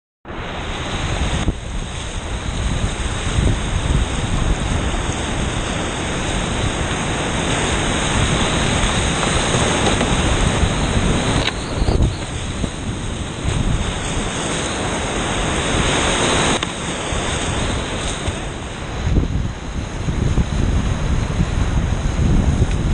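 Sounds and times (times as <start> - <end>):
river rapids rushing: 0.3 - 20.0.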